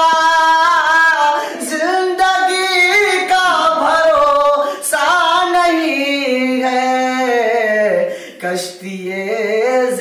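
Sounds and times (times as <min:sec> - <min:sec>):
man singing melismatic phrase: 0:00.0 - 0:10.0.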